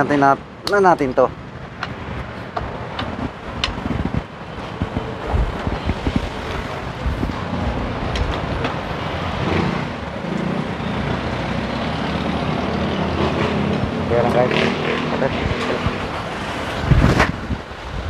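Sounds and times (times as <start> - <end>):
motor traffic noise: 0.0 - 18.0.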